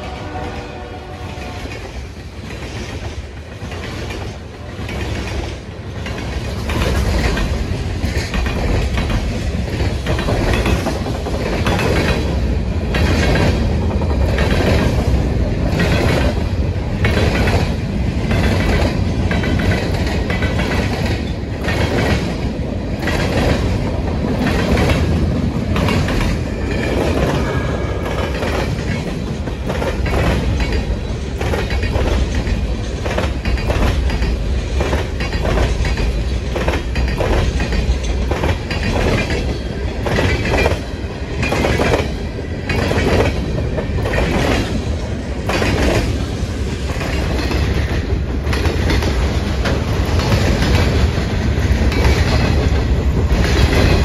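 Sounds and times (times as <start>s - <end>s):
freight train wheels rumbling: 0.0s - 54.0s
wheels clickety-clack: 1.3s - 54.0s.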